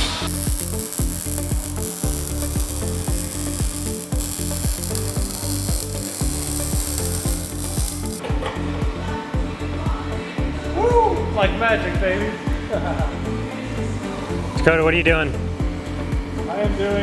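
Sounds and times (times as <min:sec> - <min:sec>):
music with heavy bass beat: 0:00.0 - 0:17.0
power tool cutting metal: 0:00.0 - 0:17.0.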